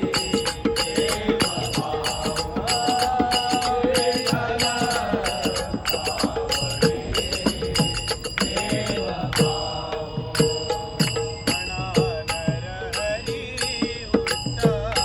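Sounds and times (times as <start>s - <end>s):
person singing devotional melody: 0.0s - 15.0s
small hand cymbals ringing: 0.0s - 15.0s.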